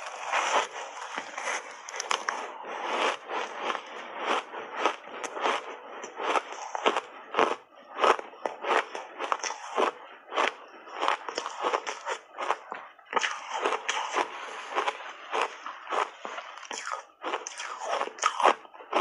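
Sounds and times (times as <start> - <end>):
crunching ice between teeth: 0.0 - 19.0.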